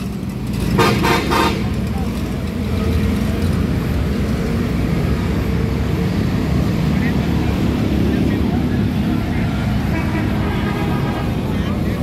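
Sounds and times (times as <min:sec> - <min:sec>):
road traffic rumble: 0:00.0 - 0:12.0
vehicle engines idling: 0:00.0 - 0:12.0.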